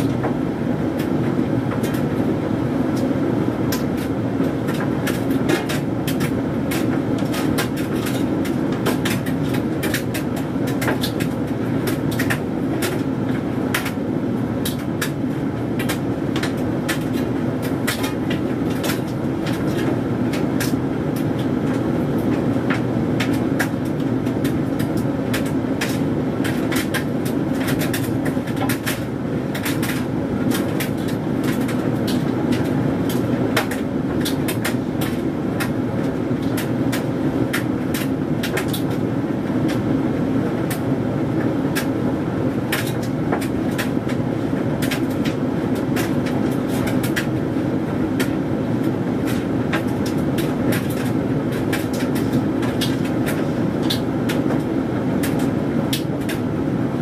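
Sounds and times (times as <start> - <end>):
tumble dryer motor humming: 0.0 - 57.0.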